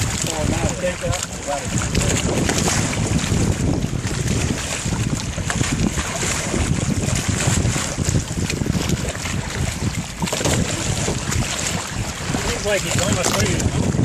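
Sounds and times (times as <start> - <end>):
water rushing past boat: 0.0 - 14.0
wind buffeting microphone: 0.0 - 14.0.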